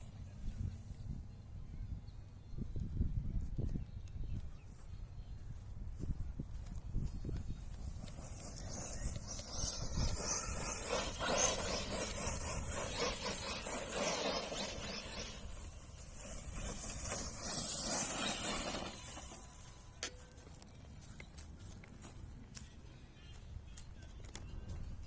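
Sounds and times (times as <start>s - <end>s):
rc truck driving off-road: 0.0s - 25.0s.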